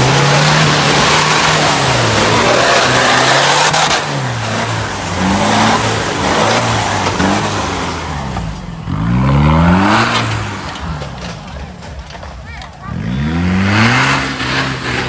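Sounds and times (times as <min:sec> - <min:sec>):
pickup engine revving: 0:00.0 - 0:15.0.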